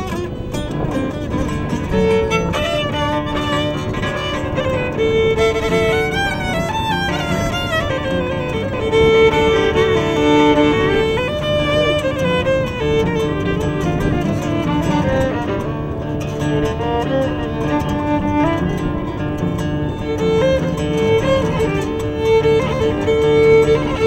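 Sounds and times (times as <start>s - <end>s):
acoustic guitar accompaniment: 0.0s - 24.0s
violin melody: 0.0s - 24.0s.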